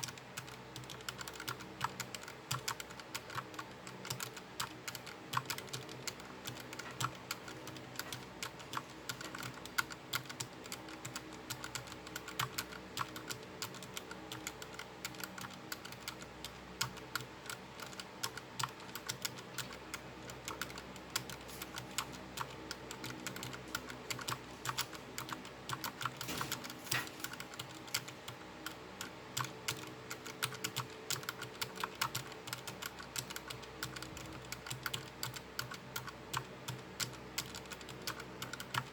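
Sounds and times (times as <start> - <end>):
fast typing on keyboard switches: 0.0 - 38.9.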